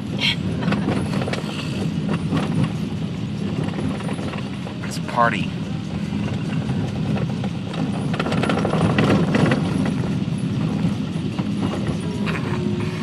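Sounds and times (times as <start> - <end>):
tyres rumbling on dirt road: 0.0 - 13.0.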